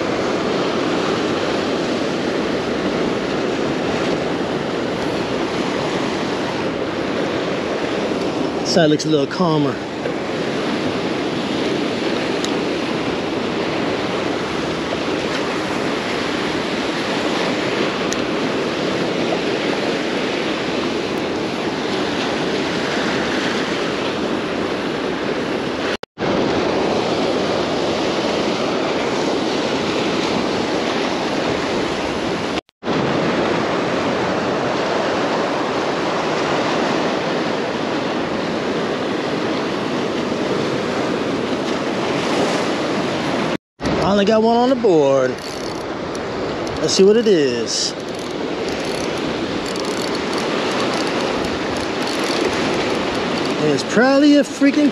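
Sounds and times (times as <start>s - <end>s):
wind on microphone: 0.0s - 8.9s, 9.8s - 54.0s
surf breaking against rocks: 0.0s - 54.9s.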